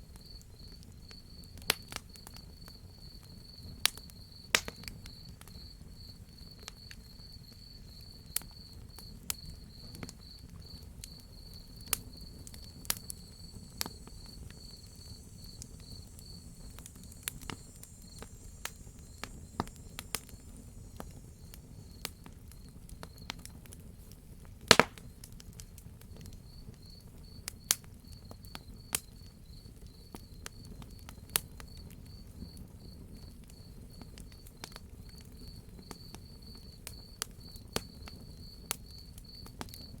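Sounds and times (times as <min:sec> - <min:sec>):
cricket chirping trill: 0:00.0 - 0:23.6, 0:26.2 - 0:40.0
wood fire crackling and popping: 0:00.1 - 0:40.0.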